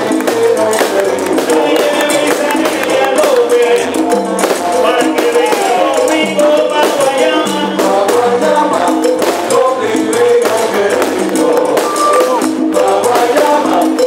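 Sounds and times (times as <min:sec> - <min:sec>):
salsa dance music: 0:00.0 - 0:14.0.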